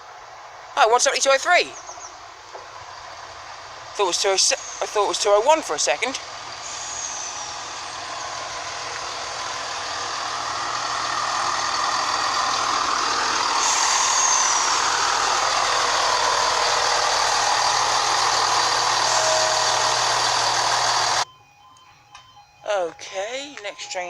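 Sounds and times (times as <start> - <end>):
brakes squealing: 0.0 - 21.3
train engine and wheel noise: 0.0 - 24.0.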